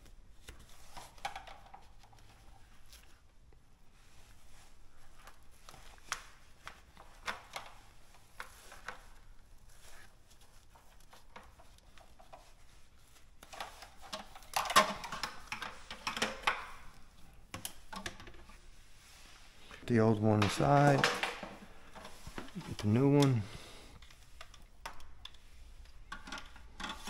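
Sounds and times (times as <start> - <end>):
foam and plastic tubing handling: 0.0 - 27.0.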